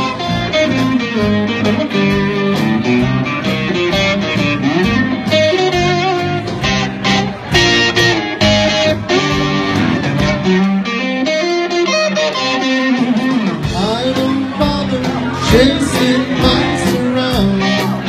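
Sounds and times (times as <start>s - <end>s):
drums with cymbal hits: 0.0s - 10.6s, 12.9s - 18.0s
bass guitar: 0.0s - 18.0s
electric guitar melody: 0.0s - 18.0s.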